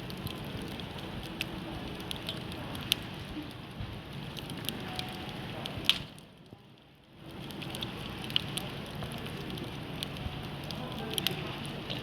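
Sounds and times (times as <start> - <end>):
firewood burning with crackling pops: 0.0 - 12.0.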